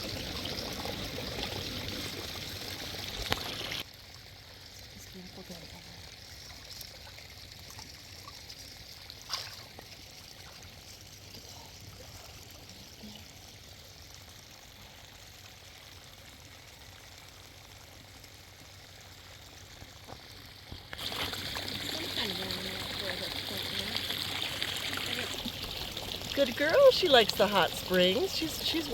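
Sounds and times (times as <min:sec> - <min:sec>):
water trickling and pouring: 0:00.0 - 0:28.9.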